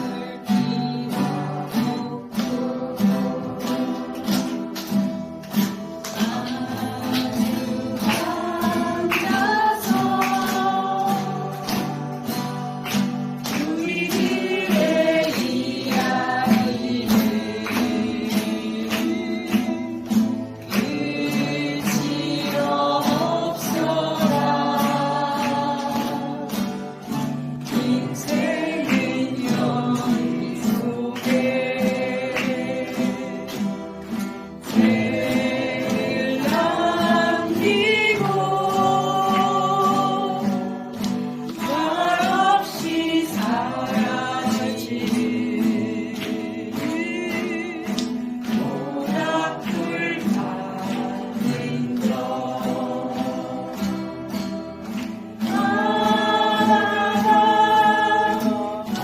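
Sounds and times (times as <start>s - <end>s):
children singing in unison: 0.0s - 4.5s, 6.1s - 12.4s, 13.4s - 59.0s
strummed guitars: 0.0s - 59.0s.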